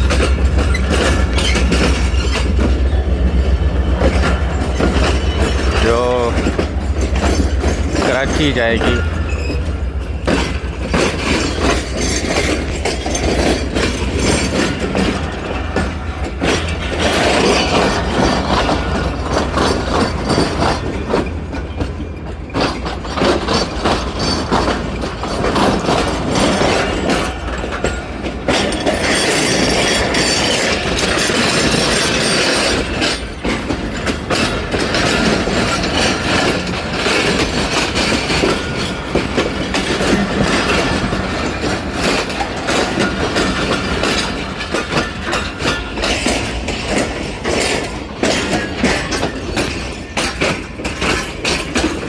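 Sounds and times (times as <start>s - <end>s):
train wheels clattering over rail joints: 0.0s - 52.0s.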